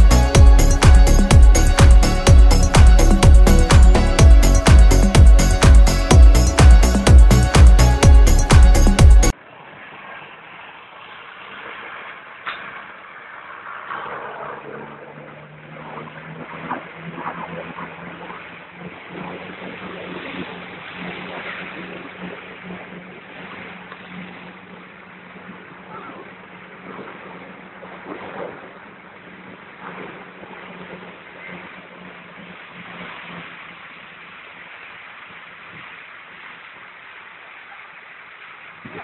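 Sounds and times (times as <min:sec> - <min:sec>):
off-road vehicle engine running: 0:00.0 - 0:35.7
water rushing and splashing: 0:00.0 - 0:39.0.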